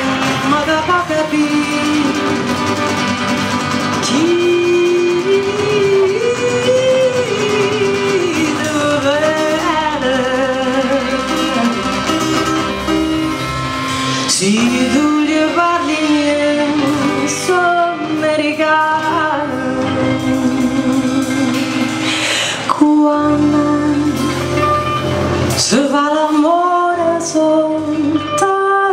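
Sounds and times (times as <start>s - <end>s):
woman singing: 0.0s - 13.4s, 14.0s - 28.9s
drum kit: 0.0s - 28.9s
strummed acoustic guitar: 0.0s - 28.9s.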